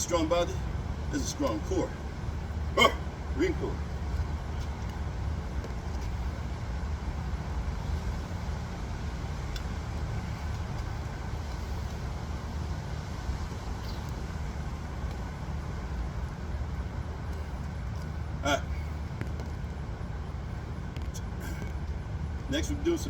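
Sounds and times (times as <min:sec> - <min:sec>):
low rumble with hum: 0:00.0 - 0:23.0.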